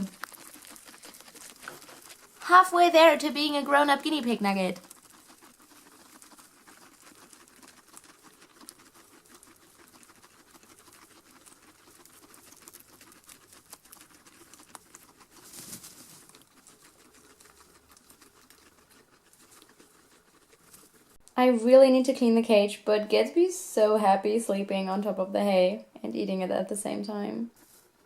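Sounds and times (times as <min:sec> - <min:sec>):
guinea pigs rustling in hay: 0:00.0 - 0:28.0.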